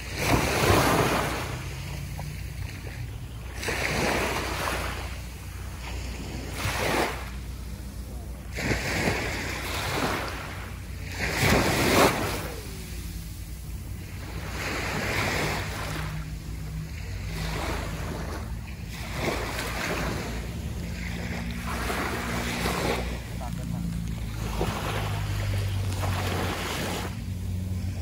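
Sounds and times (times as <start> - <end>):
small waves breaking on beach: 0.0 - 28.0.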